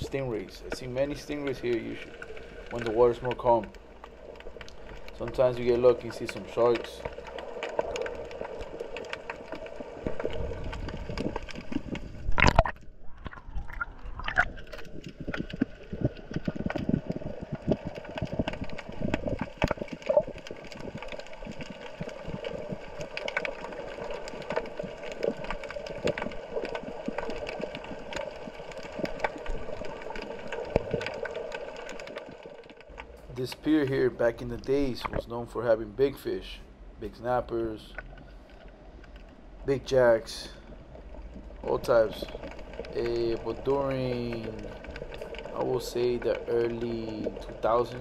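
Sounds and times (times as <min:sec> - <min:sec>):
steady underwater hum: 0:00.0 - 0:48.0
underwater crackling clicks: 0:00.6 - 0:33.7, 0:34.3 - 0:35.2, 0:37.9 - 0:39.4, 0:40.9 - 0:48.0.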